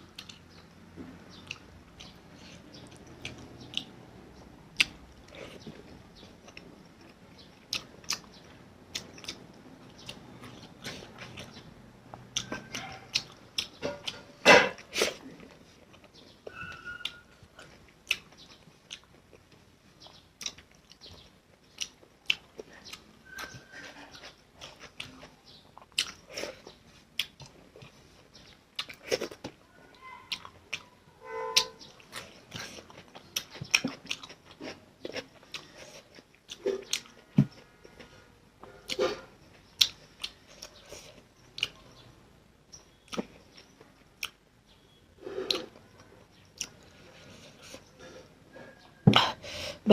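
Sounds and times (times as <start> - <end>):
person chewing food wetly: 0.0 - 29.6, 30.3 - 31.0, 31.6 - 42.0, 42.9 - 44.5, 45.3 - 49.4.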